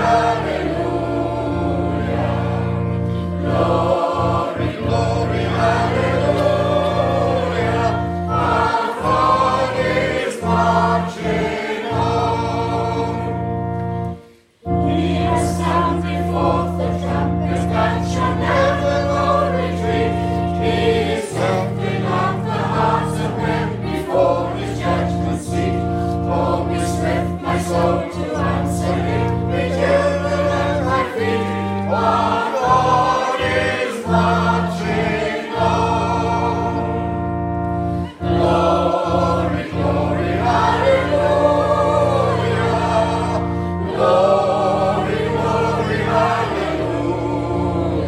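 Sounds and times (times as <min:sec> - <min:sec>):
congregation singing a hymn: 0:00.0 - 0:48.0.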